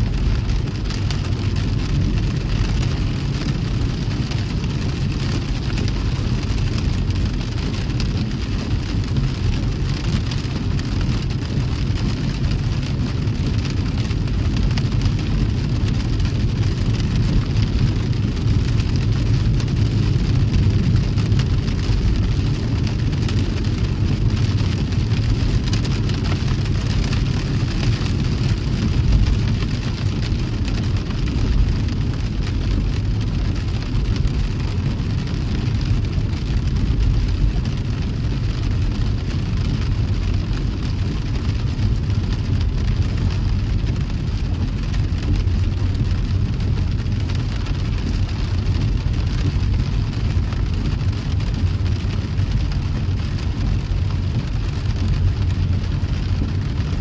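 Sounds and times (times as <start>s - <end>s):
car rumbling: 0.0s - 57.0s
rain and wet road hiss: 0.0s - 57.0s.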